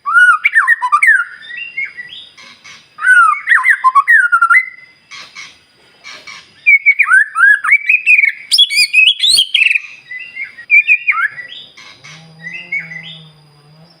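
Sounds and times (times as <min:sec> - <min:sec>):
bird singing whistles and chirps: 0:00.0 - 0:05.6, 0:06.3 - 0:14.0.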